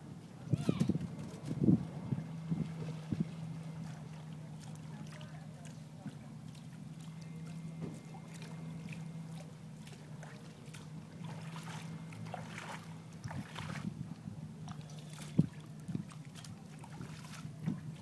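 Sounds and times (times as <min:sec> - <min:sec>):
motorboat engine idling: 0:00.0 - 0:18.0
water splashes: 0:00.6 - 0:18.0.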